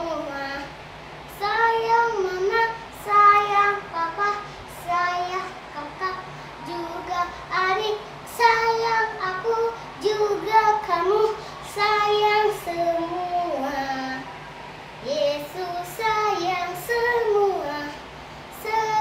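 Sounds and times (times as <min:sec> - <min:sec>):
girl singing: 0:00.0 - 0:19.0.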